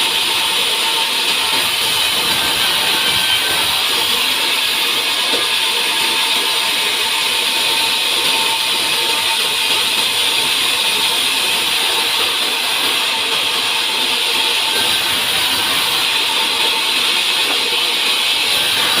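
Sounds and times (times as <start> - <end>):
saw cutting through log: 0.0 - 19.0.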